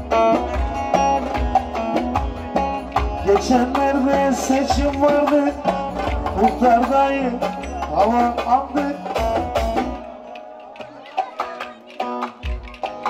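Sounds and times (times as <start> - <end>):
folk dance music from live band: 0.0 - 13.0.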